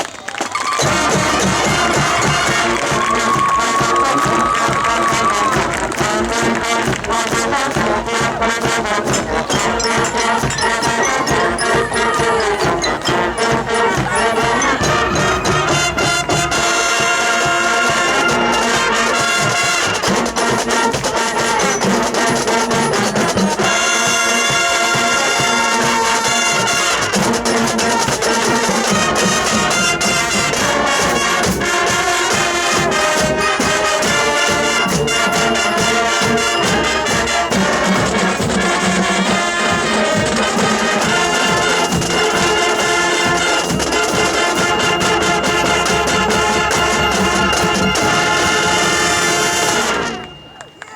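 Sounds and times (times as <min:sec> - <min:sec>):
marching band brass: 0:00.0 - 0:50.9
percussion strokes: 0:00.4 - 0:50.9.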